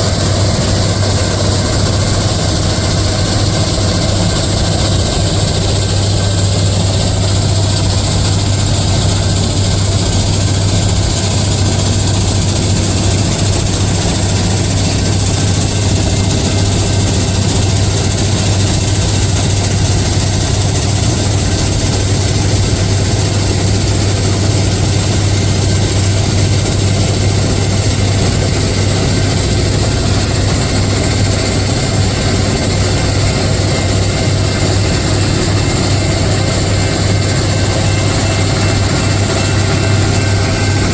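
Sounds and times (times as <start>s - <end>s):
heavy engine humming: 0.0s - 40.9s.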